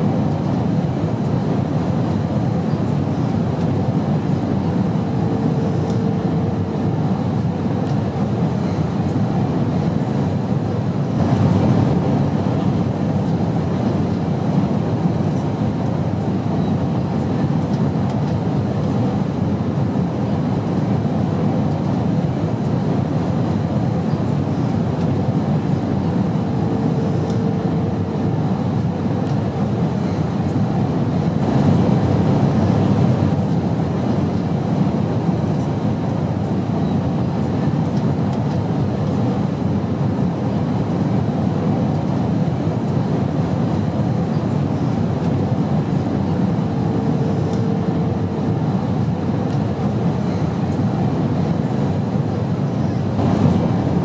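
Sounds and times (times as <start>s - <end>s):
airplane rumbling drone: 0.0s - 54.0s.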